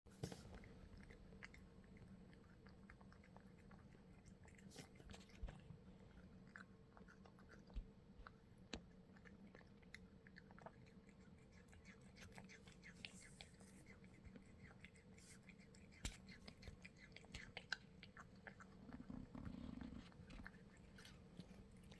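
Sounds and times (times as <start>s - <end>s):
cat chewing and smacking: 0.1s - 21.9s.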